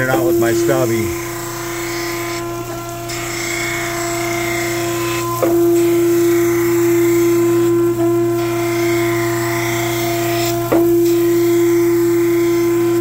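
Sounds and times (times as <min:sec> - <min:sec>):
grinder wheel humming: 0:00.0 - 0:13.0.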